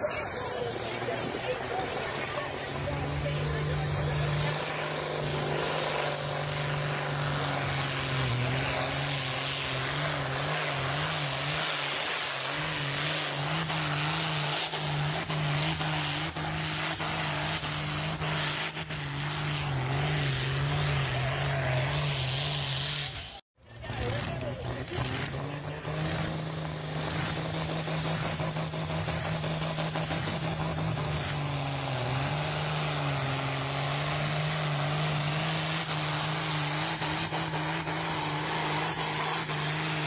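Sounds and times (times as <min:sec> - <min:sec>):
diesel tractor engine at full load: 0:00.0 - 0:40.0.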